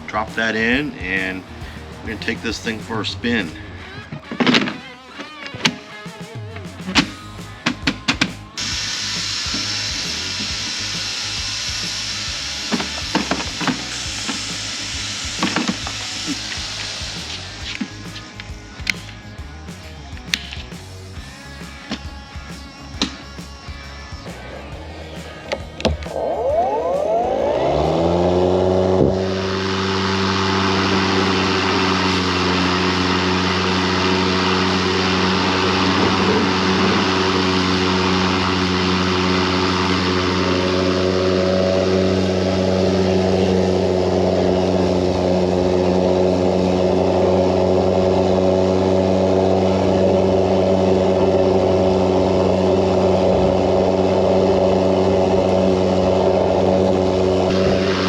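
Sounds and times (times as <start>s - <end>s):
lawn mower motor humming: 0.0s - 58.0s
air and grass hissing: 5.6s - 26.5s, 27.8s - 58.0s.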